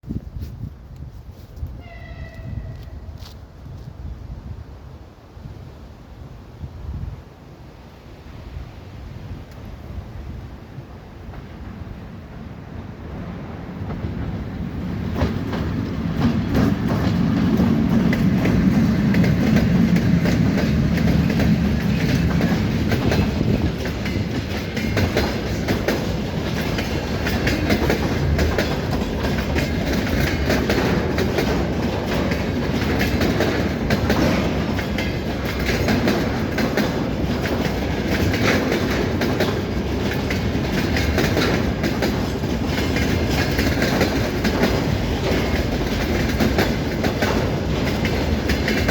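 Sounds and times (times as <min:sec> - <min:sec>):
freight train rumble: 0:00.0 - 0:48.9
wheels clickety-clack over rail joints: 0:09.2 - 0:48.9.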